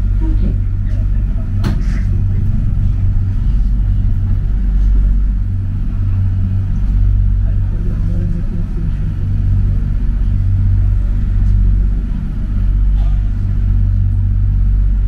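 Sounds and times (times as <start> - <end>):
light rail car low rumble: 0.0 - 15.0.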